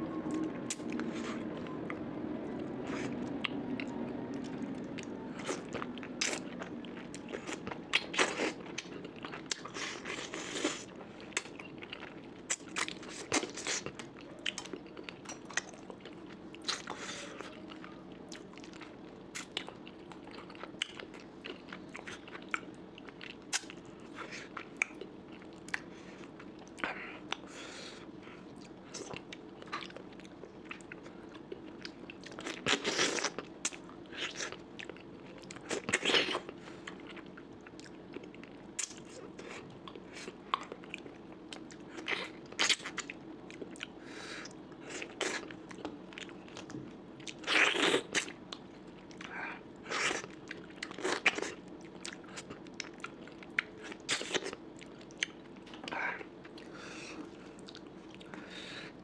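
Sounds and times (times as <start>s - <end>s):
person chewing: 0.3s - 2.0s, 2.6s - 27.5s, 28.4s - 59.0s.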